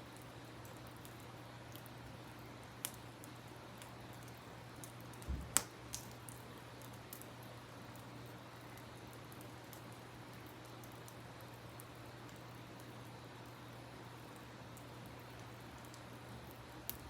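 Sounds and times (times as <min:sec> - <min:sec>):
campfire wood crackling and popping: 0:00.0 - 0:17.0
faint steady hiss and hum: 0:00.0 - 0:17.0.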